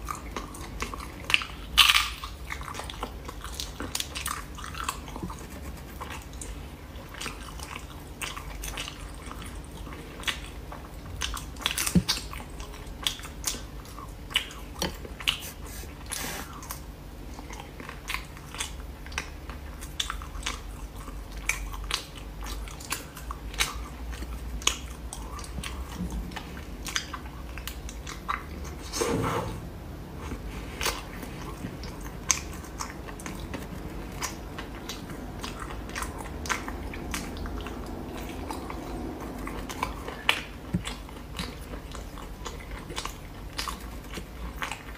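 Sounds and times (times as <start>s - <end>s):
chewing and wet mouth clicks: 0.0s - 28.9s, 30.2s - 44.9s.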